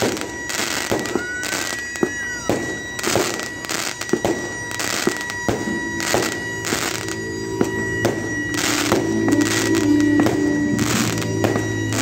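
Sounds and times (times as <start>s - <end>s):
held brass notes: 0.0s - 12.0s.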